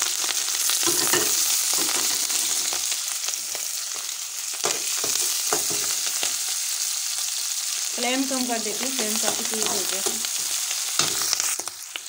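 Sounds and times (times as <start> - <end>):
cabbage sizzling in hot oil: 0.0 - 12.0.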